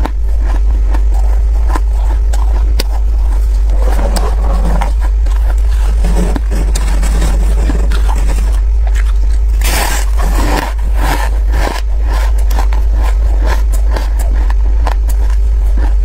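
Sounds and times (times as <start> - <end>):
steady low hum: 0.0 - 16.0
teeth crunching frost: 0.0 - 16.0.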